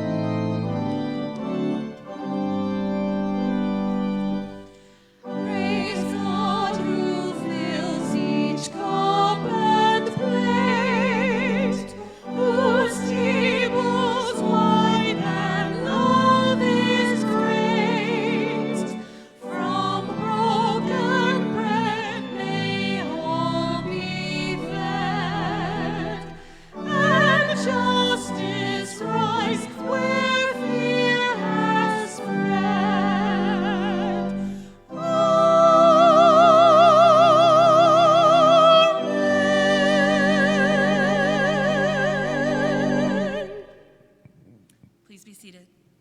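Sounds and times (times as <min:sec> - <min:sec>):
instrumental accompaniment: 0:00.0 - 0:44.7
person singing with wide vibrato: 0:04.4 - 0:44.3.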